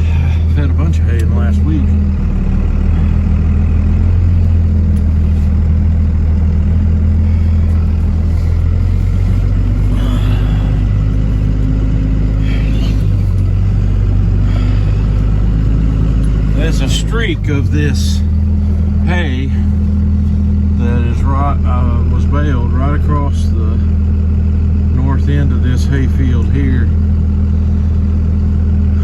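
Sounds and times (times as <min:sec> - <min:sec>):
truck engine droning: 0:00.0 - 0:29.0.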